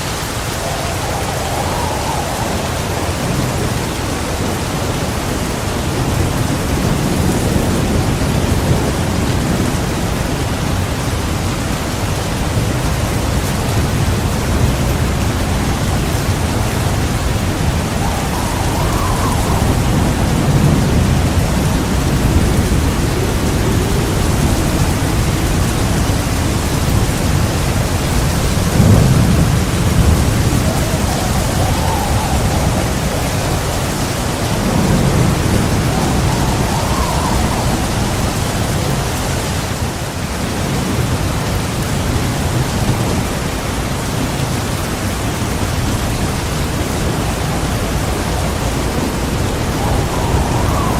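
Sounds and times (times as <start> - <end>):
heavy rain pouring: 0.0 - 50.9
low rolling thunder: 0.0 - 50.9.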